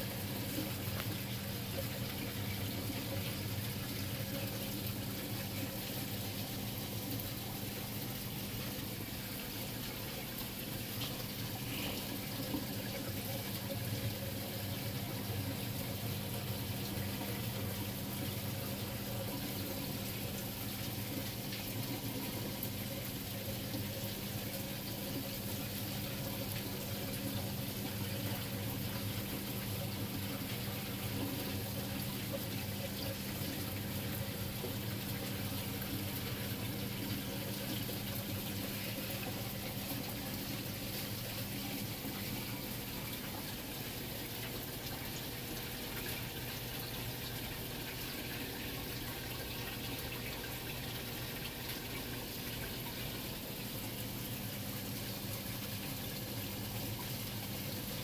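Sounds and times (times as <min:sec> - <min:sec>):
circulating water rushing: 0:00.0 - 0:58.0
low steady hum: 0:00.0 - 0:58.0.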